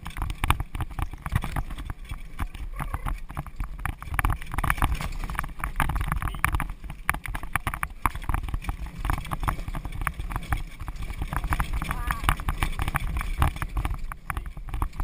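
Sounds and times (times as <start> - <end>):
carriage and harness rattling: 0.0 - 15.0
horse hoofbeats: 0.0 - 15.0
wind rumble on microphone: 0.0 - 15.0.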